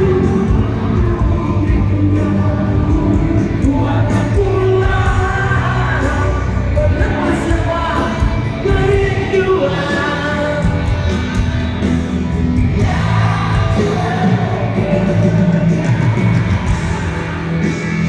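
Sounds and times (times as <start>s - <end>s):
heavy bass: 0.0s - 18.0s
pop-rock music with singer: 0.0s - 18.0s.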